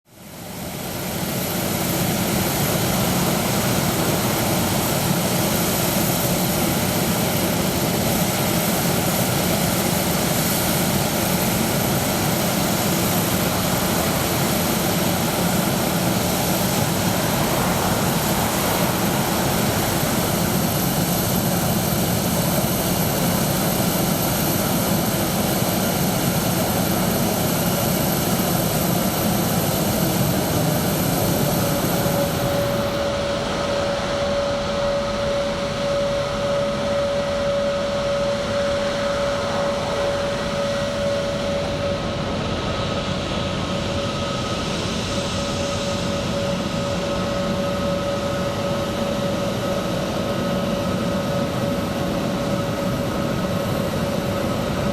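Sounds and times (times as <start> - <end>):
jet engines running: 0.1 - 54.9.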